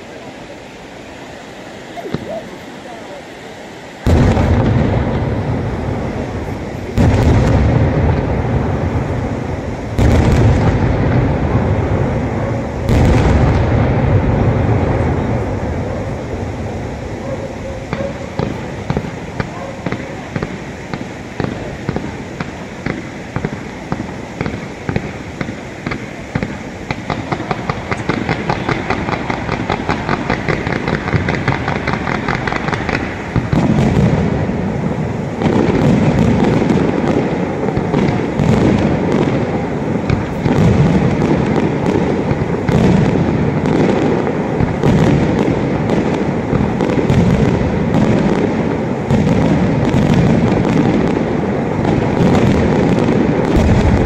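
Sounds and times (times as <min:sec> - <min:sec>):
fireworks shots: 0:00.0 - 0:54.0.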